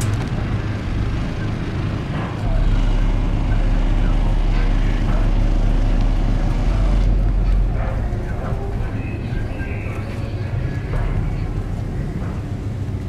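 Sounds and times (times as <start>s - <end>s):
steady low hum: 0.0s - 13.0s
faint background voices: 0.3s - 13.0s.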